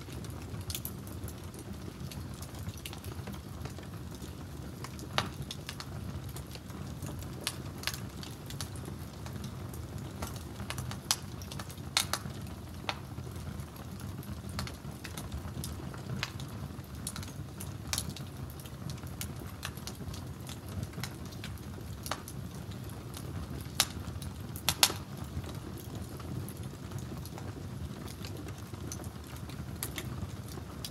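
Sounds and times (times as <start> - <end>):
sharp pops of fire: 0.0 - 30.9
wood fire crackling: 0.0 - 30.9.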